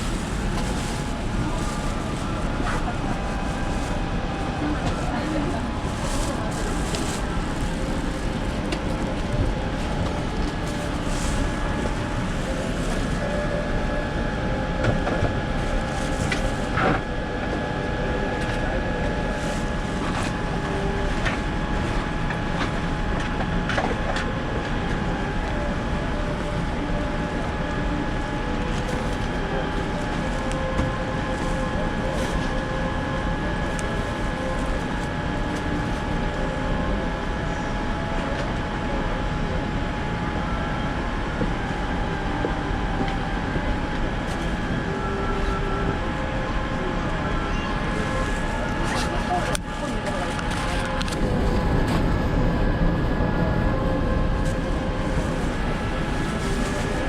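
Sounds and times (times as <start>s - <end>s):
airplane cabin hum: 0.0s - 57.0s.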